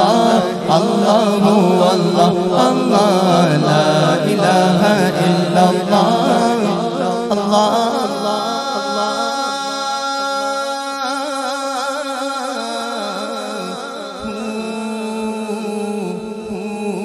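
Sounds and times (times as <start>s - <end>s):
man singing in chanting style: 0.0s - 17.0s.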